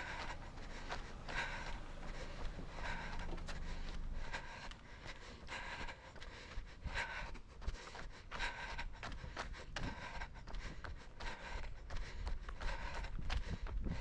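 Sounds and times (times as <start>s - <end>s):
runner panting: 0.0s - 14.0s.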